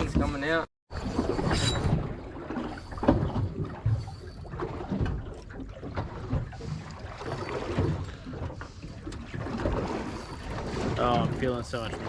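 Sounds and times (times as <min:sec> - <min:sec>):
water slapping against metal hull: 0:00.0 - 0:12.0.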